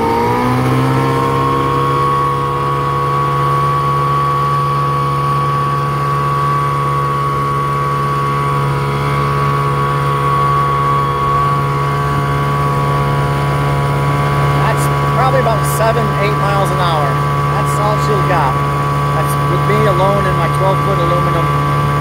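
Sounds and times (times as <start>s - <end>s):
outboard motor at full throttle: 0.0s - 22.0s.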